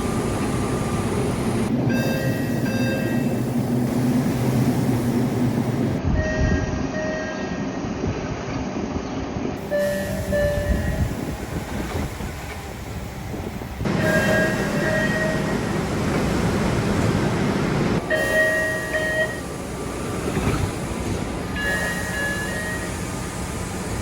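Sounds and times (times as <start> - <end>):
steady train hum: 0.0 - 24.0.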